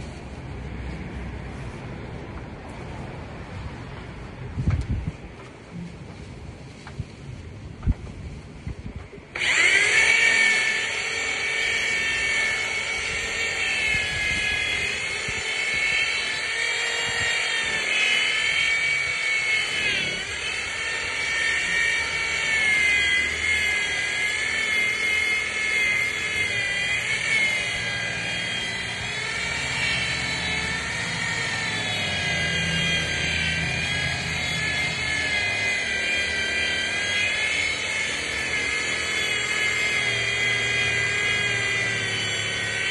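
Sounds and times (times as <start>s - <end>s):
electric polisher motor whine: 7.8s - 42.9s.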